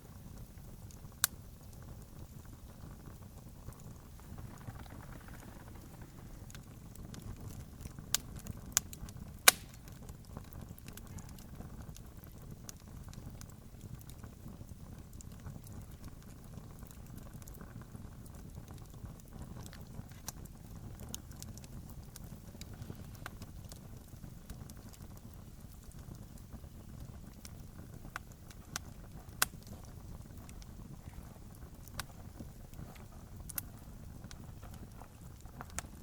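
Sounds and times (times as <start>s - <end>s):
campfire crackling: 0.0s - 36.0s.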